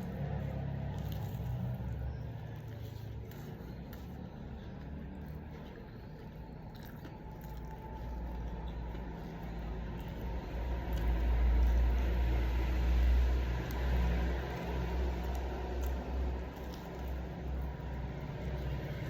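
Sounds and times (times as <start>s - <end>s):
person biting and chewing: 0.0s - 19.0s.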